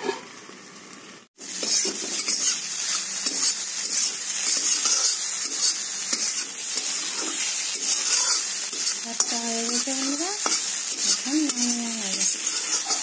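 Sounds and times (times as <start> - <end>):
greens sizzling in hot oil: 0.0 - 13.0
spatula scraping a pan: 1.5 - 13.0.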